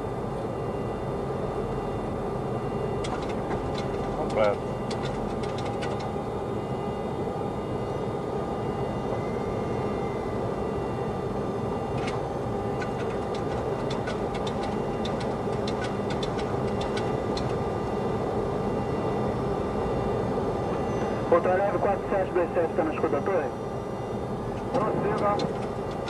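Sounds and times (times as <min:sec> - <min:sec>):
cockpit airflow and engine rush: 0:00.0 - 0:26.0
faint steady tones: 0:00.0 - 0:26.0.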